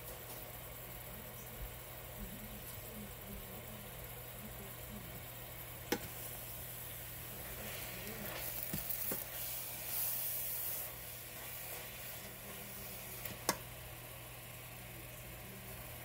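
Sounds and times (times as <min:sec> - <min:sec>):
spinach sizzling in a pan: 0:00.0 - 0:16.0.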